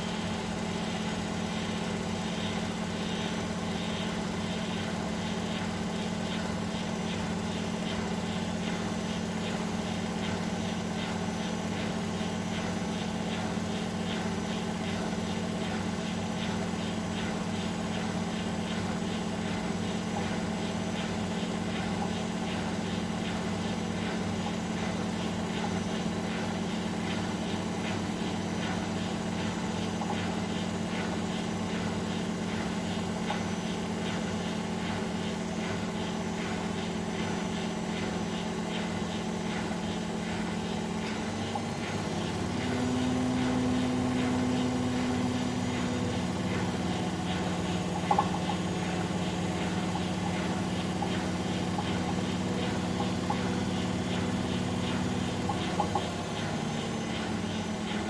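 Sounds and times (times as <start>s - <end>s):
washing machine motor humming: 0.0s - 58.0s.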